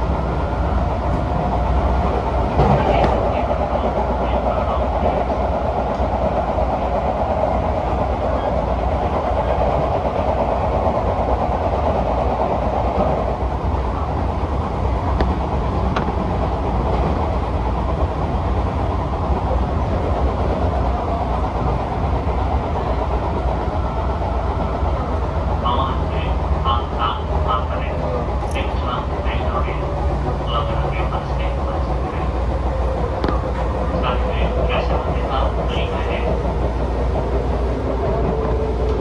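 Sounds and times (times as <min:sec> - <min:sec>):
train rumbling on tracks: 0:00.0 - 0:39.0.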